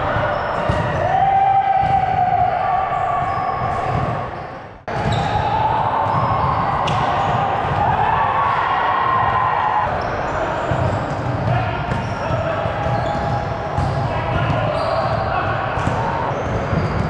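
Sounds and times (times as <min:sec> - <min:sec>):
volleyball impacts: 0:00.0 - 0:08.6, 0:10.7 - 0:17.0
reverberant hall noise: 0:00.0 - 0:17.0.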